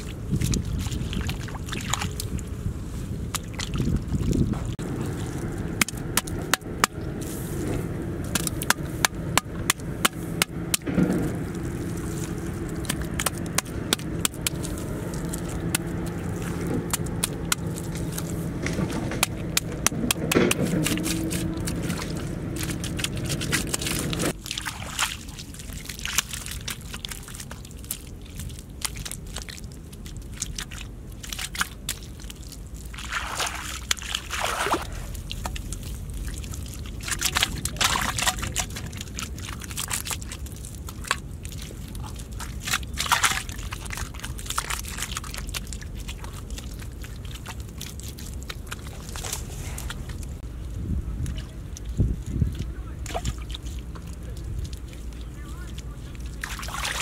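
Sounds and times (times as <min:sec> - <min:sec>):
steady low hum: 0:00.0 - 0:57.0
wet mud squelching and slapping: 0:00.0 - 0:57.0.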